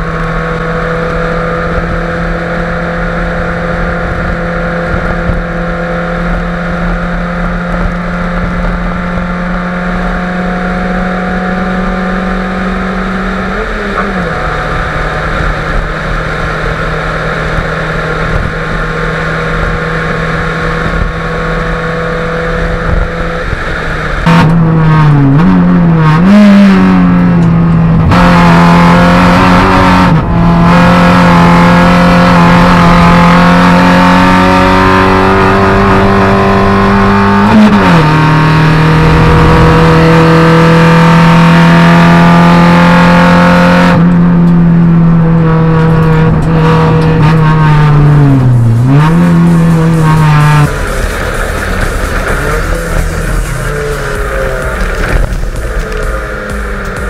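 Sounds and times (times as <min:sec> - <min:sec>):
racing car engine at high revs: 0:00.0 - 0:57.0.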